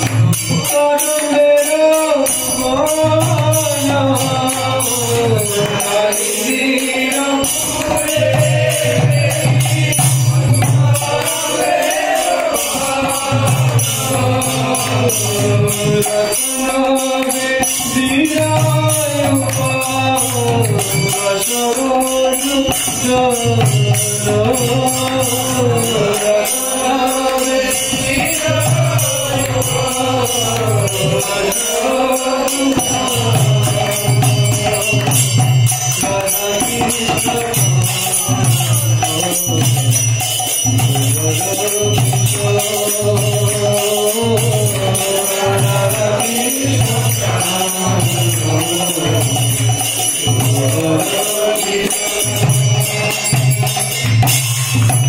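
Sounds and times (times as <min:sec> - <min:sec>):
man singing devotional song: 0:00.0 - 0:55.0
metallic jingle: 0:00.0 - 0:55.0.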